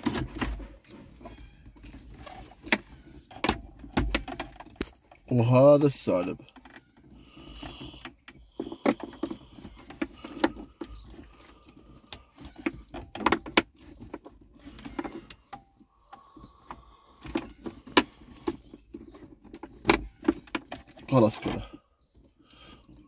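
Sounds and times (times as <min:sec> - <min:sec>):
plastic panel knocking and rustling: 0:00.0 - 0:05.2, 0:06.5 - 0:15.7, 0:17.2 - 0:22.3.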